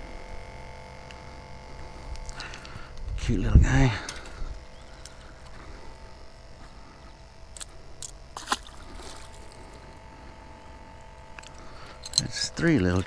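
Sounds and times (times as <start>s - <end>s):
construction machinery hum: 0.0s - 13.0s.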